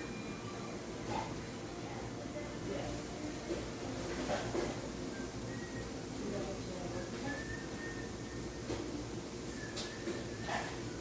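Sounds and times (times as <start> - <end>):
restaurant background ambience: 0.0 - 11.0.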